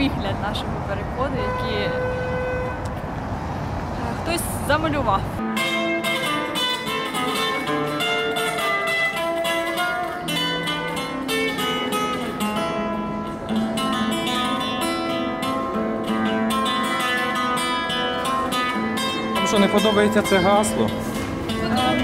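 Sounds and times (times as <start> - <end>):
acoustic guitar music: 4.3 - 22.0.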